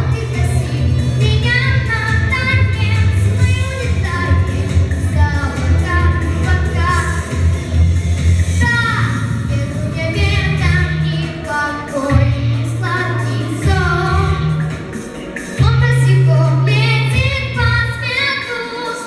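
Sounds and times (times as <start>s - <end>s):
girl singing: 0.0s - 7.4s, 8.6s - 14.6s, 15.6s - 19.0s
sustained low bass notes: 0.0s - 15.0s, 15.6s - 18.0s
instrumental accompaniment: 0.0s - 18.7s.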